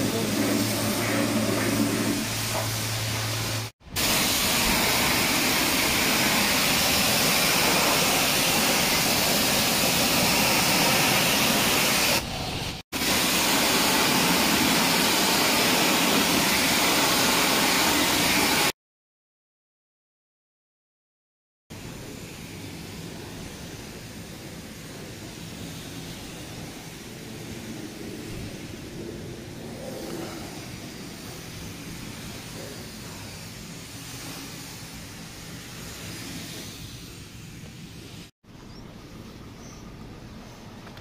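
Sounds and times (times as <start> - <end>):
pressure washer spraying: 0.0 - 18.7, 21.8 - 38.3.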